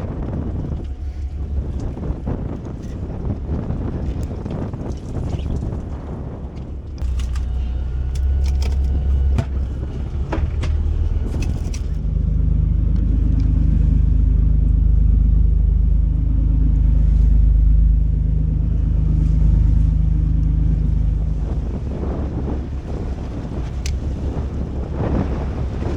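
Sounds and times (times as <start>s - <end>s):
wind noise: 0.0s - 14.5s, 16.5s - 25.9s
boat engine rumbling: 0.0s - 25.9s.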